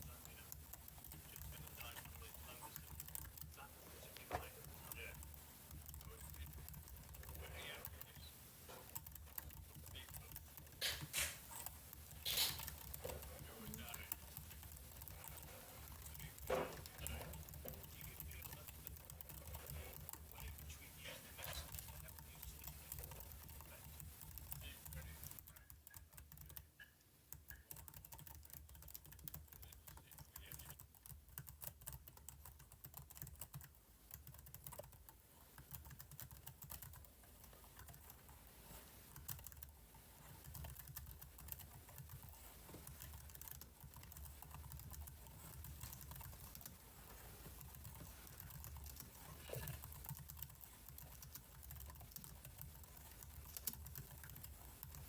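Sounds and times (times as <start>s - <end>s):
keyboard keys clicking: 0.0s - 55.0s.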